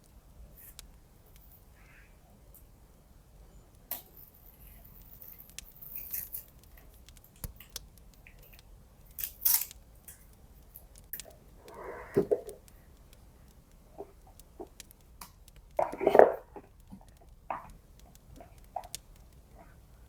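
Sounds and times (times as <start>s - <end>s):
faint clicks: 0.0s - 2.7s, 3.5s - 20.0s.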